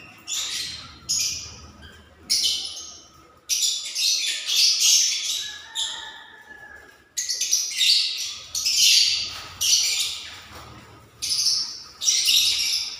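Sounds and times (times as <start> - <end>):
parrots chattering and squawking: 0.0 - 12.9.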